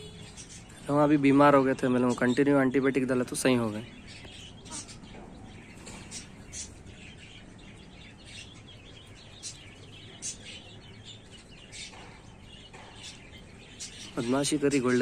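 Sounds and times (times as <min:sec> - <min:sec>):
faint steady background noise: 0:00.0 - 0:15.0
small birds chirping: 0:00.0 - 0:15.0.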